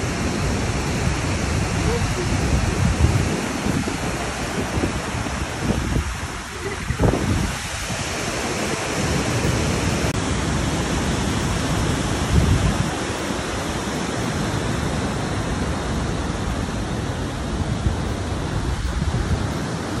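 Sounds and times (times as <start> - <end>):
waterfall and river rapids rushing: 0.0 - 20.0.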